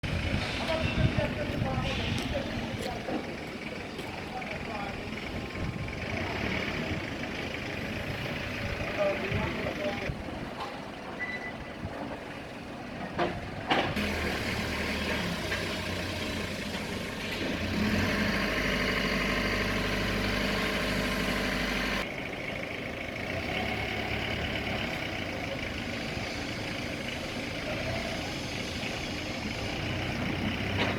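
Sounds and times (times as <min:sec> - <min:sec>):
diesel generator engine running: 0:00.0 - 0:30.9.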